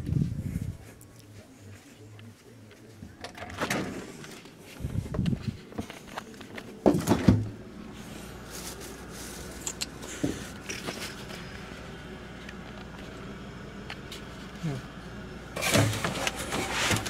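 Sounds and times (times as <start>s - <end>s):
refrigerator low hum: 0.0s - 17.0s.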